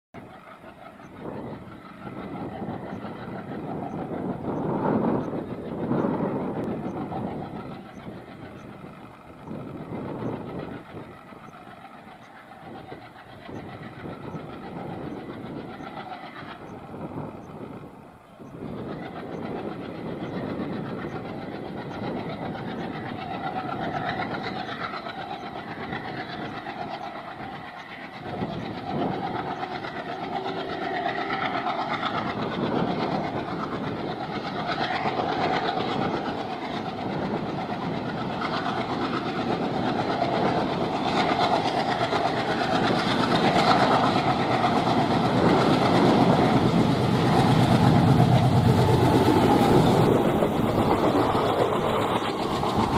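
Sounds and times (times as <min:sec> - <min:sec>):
diesel locomotive engine running: 0:00.2 - 0:52.9
train wheels clattering on rails: 0:00.2 - 0:52.9.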